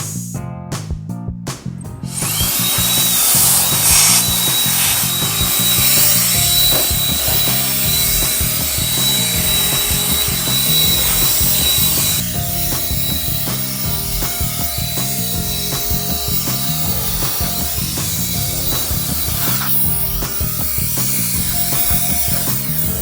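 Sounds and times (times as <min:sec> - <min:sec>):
blower high-pitched whine: 0:02.1 - 0:23.0.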